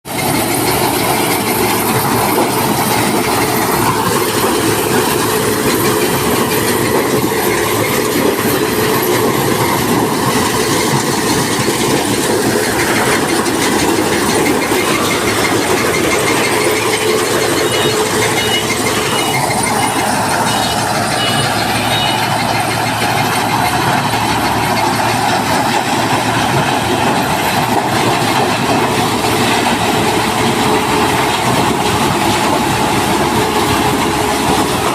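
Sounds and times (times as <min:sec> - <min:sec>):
harvester mechanical clatter: 0:00.1 - 0:34.9.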